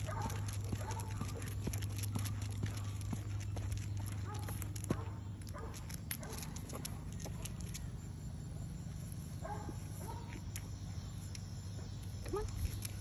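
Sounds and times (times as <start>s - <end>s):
light clicks and footsteps: 0.0s - 8.1s, 9.4s - 13.0s
steady low rumble: 0.0s - 13.0s.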